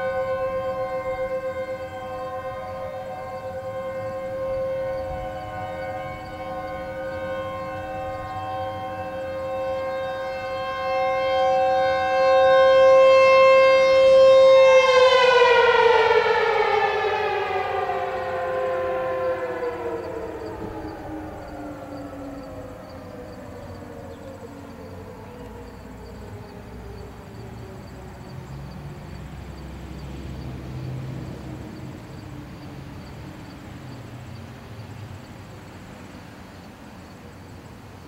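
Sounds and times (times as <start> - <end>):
warning siren winding down: 0.0 - 34.4.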